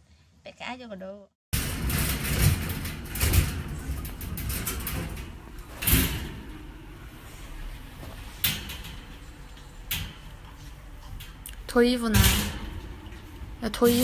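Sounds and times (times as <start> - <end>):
wire cage rattling: 1.6 - 14.0.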